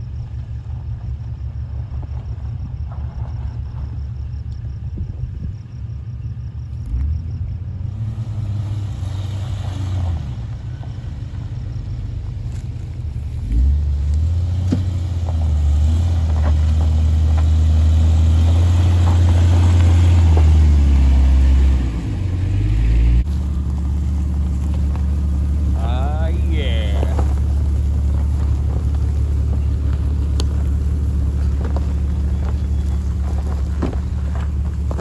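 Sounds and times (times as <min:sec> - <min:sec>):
engine droning up a hill: 0:00.0 - 0:35.0.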